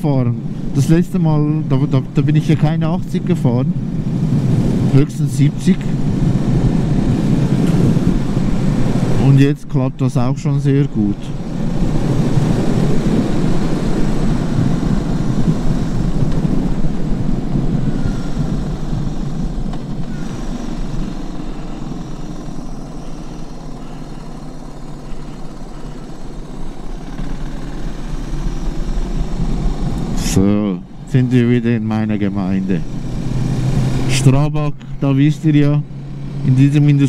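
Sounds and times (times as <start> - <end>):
motorcycle engine running: 0.0 - 9.6, 10.2 - 37.0
wind noise: 0.4 - 9.5, 11.2 - 34.2.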